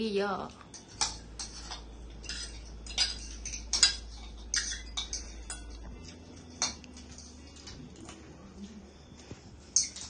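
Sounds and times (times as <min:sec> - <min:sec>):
utensils clinking against bowls: 0:00.5 - 0:08.7, 0:09.6 - 0:10.0.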